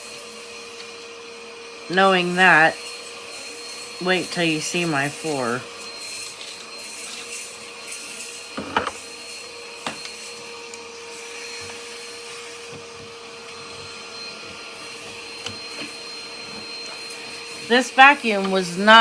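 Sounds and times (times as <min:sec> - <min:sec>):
vacuum cleaner motor whirring: 0:00.0 - 0:19.0.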